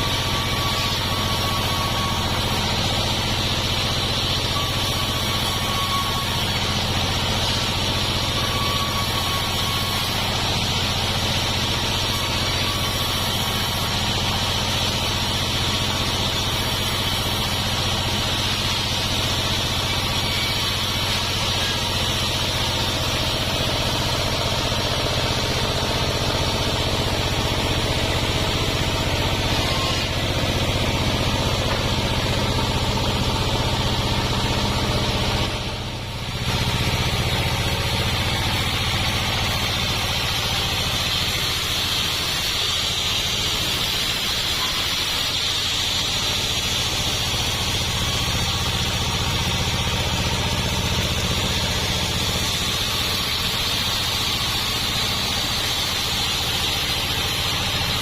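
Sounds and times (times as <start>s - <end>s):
sawmill sawing timber: 0.0s - 58.0s.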